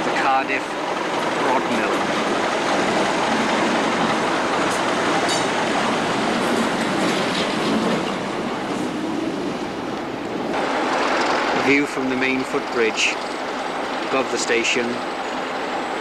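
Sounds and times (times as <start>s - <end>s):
diesel locomotive engine passing: 0.0s - 16.0s
train wheels on rails: 0.0s - 16.0s.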